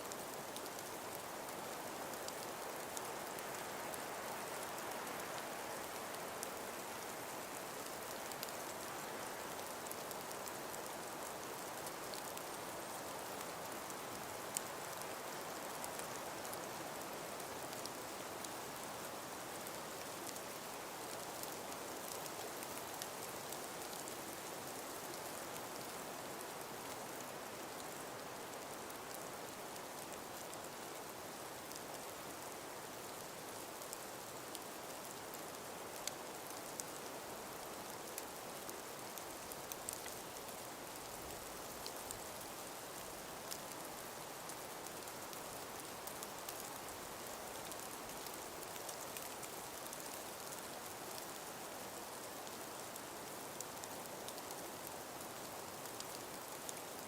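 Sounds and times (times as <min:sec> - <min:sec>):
faint ticks and patters: 0:00.0 - 0:57.0.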